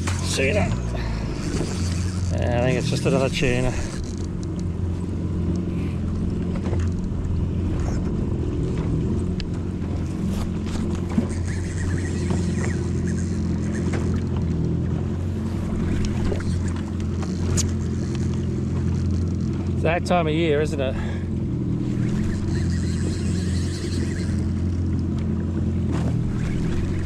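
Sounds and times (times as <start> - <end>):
jet ski engine idling: 0.0 - 27.0.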